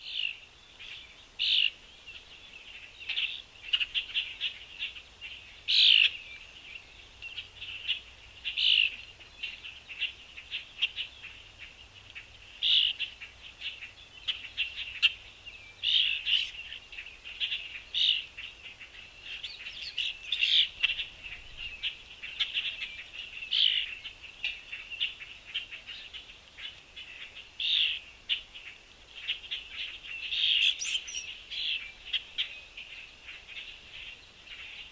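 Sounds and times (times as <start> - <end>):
small songbirds chirping: 0.0 - 34.9.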